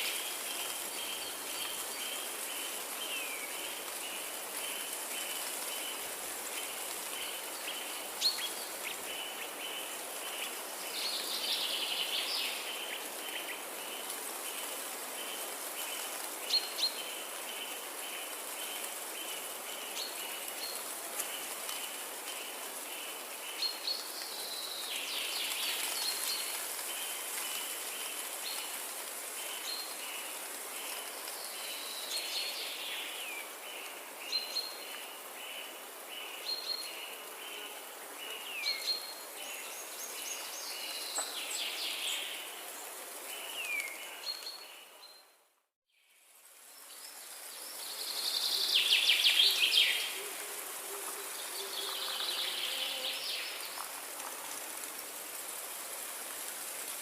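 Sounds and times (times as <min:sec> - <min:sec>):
high hiss of insects: 0:00.0 - 0:44.9, 0:45.9 - 0:57.0.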